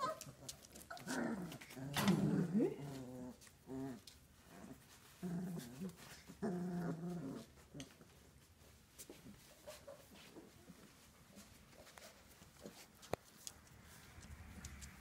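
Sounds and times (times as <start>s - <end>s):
puppies growling: 0.0s - 15.0s.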